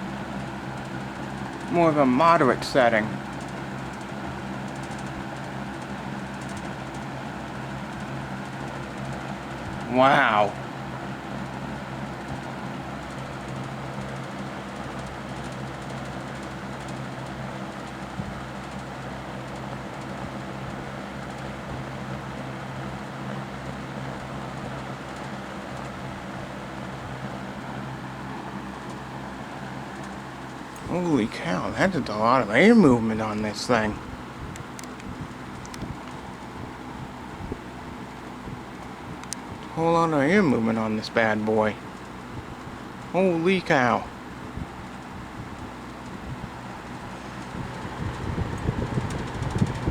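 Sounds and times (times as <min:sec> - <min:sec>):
electric fan running: 0:00.0 - 0:49.9.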